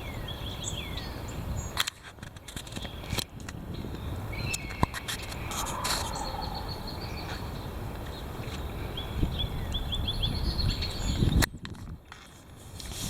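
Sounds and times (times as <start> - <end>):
small birds chirping: 0.0 - 1.8, 2.4 - 11.6
wind noise on microphone: 0.0 - 13.0.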